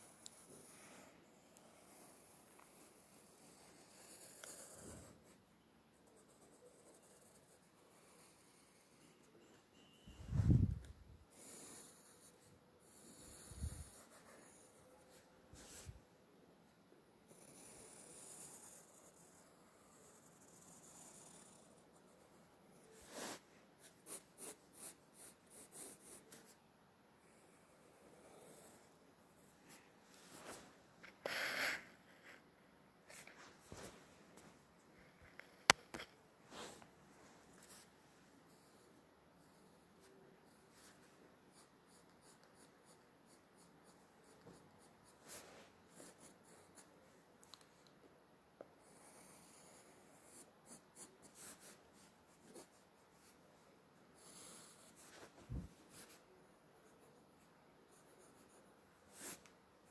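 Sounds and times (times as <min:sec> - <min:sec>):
pencil strokes on paper: 0:00.0 - 0:16.2, 0:17.2 - 0:26.6, 0:27.2 - 0:32.4, 0:36.5 - 0:47.2, 0:48.8 - 0:59.9
faint room noise: 0:00.0 - 0:59.9.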